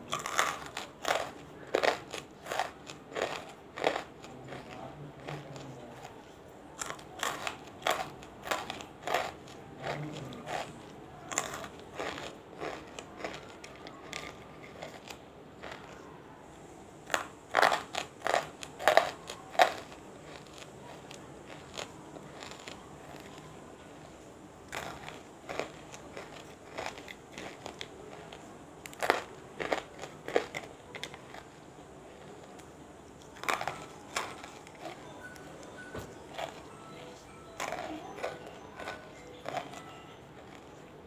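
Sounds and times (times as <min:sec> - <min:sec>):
close chewing with brittle crunches: 0:00.0 - 0:16.1, 0:17.1 - 0:41.0.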